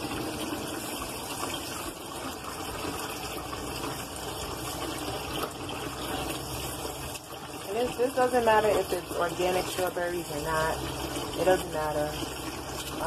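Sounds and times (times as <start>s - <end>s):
tap water running into a sink: 0.0s - 13.0s.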